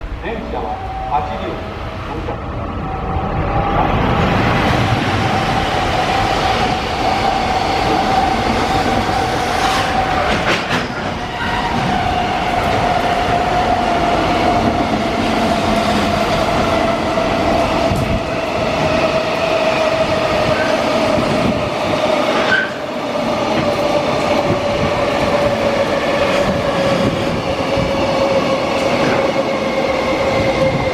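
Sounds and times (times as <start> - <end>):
train wheels rumbling and clicking: 3.6 - 30.9.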